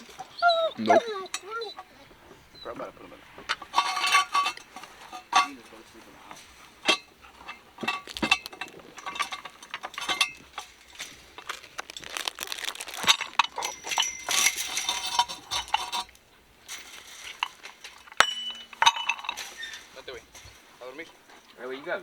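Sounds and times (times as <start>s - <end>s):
metal tools clinking: 0.0s - 2.8s, 3.4s - 22.0s.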